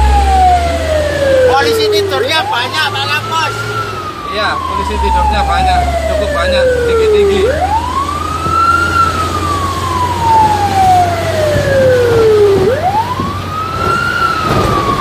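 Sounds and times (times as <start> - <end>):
fire truck siren wailing: 0.0 - 15.0
truck rumble from inside cab: 0.0 - 15.0.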